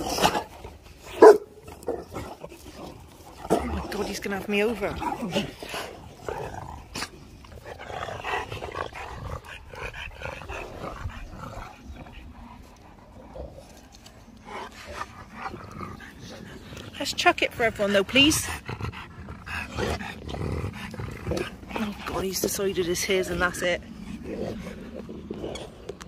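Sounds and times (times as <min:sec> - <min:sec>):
dogs growling low: 0:00.0 - 0:26.0.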